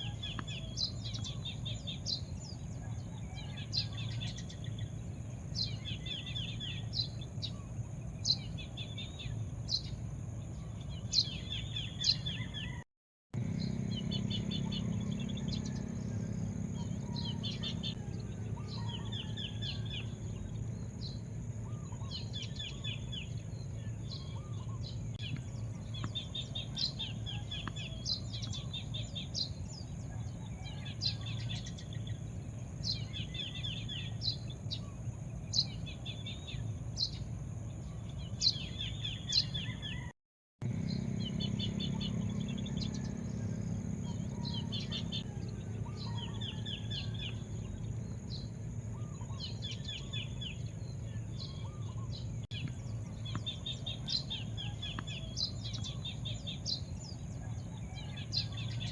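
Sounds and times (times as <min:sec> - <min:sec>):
small birds chirping: 0:00.0 - 0:12.8, 0:13.4 - 0:58.9.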